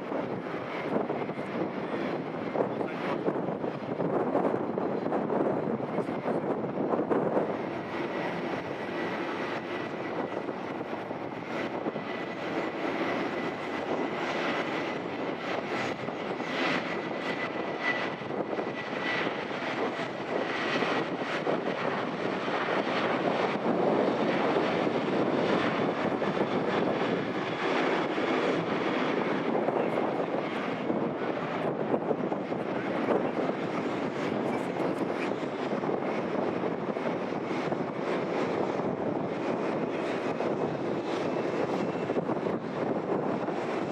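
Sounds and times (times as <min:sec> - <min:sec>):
jet airliner engine rushing: 0:00.0 - 0:43.9.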